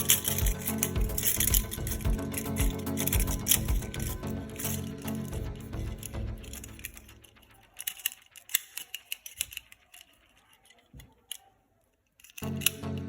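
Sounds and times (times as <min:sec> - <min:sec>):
background music: 0:00.0 - 0:10.0, 0:12.2 - 0:13.0
hard plastic clicks and rattles: 0:00.0 - 0:11.5.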